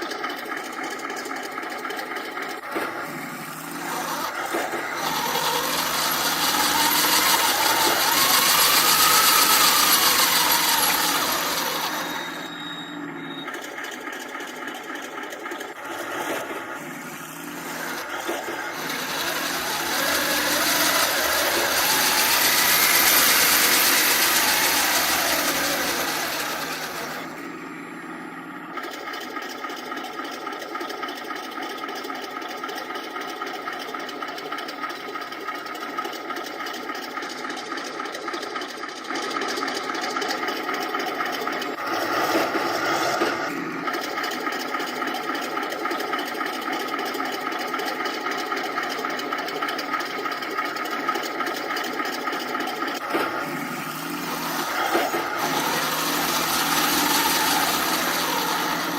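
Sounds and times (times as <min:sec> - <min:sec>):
tank track squeak: 0:00.0 - 0:31.5, 0:35.9 - 0:58.9
model tank engine sound: 0:00.0 - 0:58.9.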